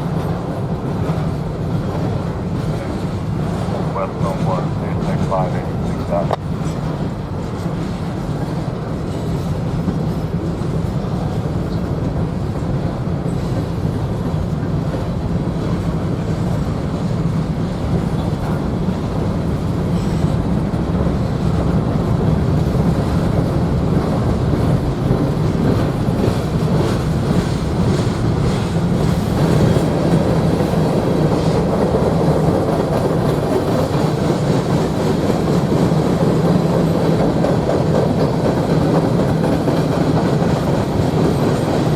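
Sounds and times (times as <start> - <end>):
train rumbling on rails: 0.0 - 41.9.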